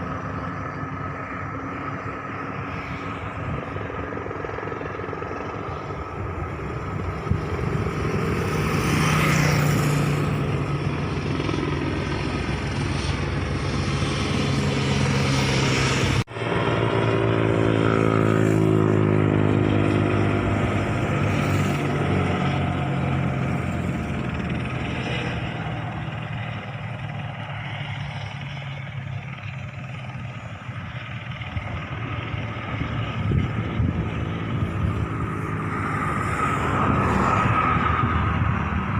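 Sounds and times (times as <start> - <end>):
aircraft engine and propeller drone: 0.0 - 38.9.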